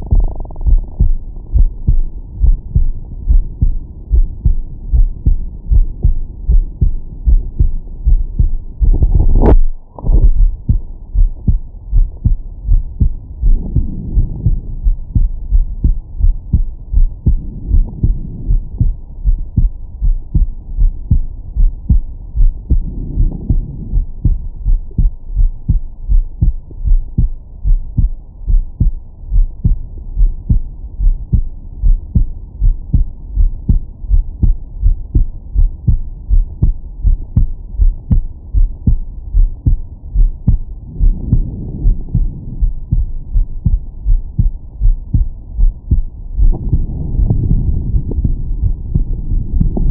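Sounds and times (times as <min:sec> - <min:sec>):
heartbeat through stethoscope: 0:00.0 - 0:49.9.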